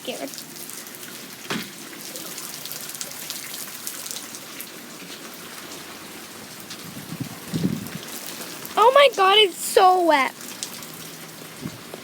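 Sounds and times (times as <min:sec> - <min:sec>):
heavy rain: 0:00.0 - 0:12.0
raindrops ticking on surfaces: 0:00.0 - 0:12.0.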